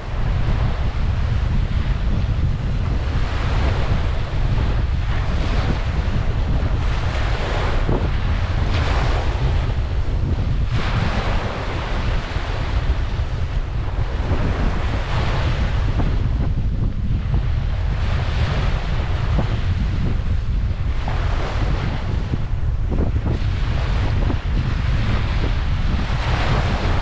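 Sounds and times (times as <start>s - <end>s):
ocean waves breaking: 0.0s - 27.0s
wind rumbling on microphone: 0.0s - 27.0s.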